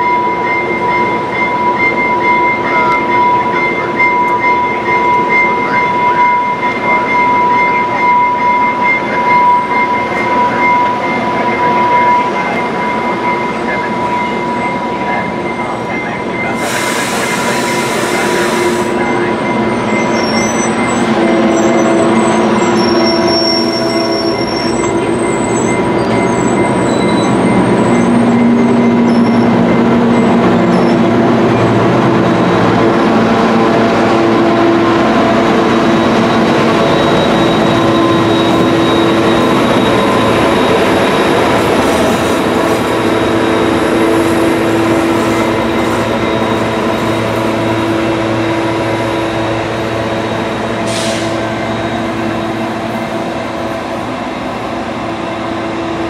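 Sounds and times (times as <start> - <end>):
diesel locomotives running: 0.0 - 56.0
train coaches rolling over rails: 0.0 - 56.0.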